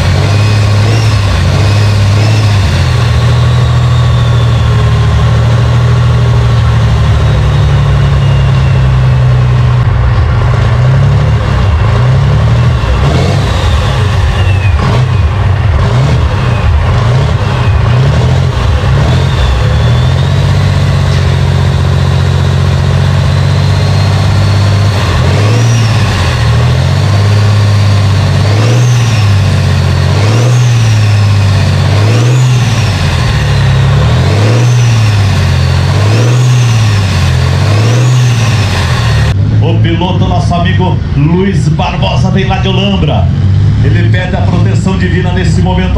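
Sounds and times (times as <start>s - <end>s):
tractor engine revving: 0.0s - 45.9s
turbo whine: 0.0s - 45.9s.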